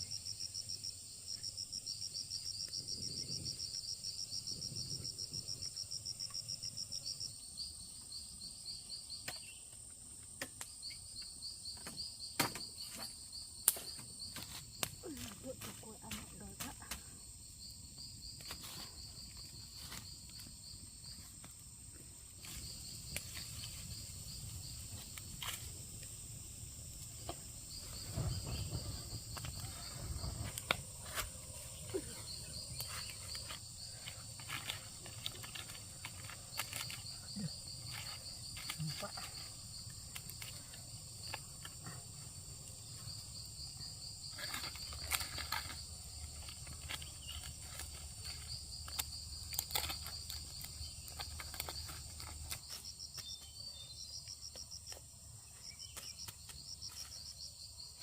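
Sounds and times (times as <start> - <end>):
insects chirping in rapid pulses: 0.0 - 58.0.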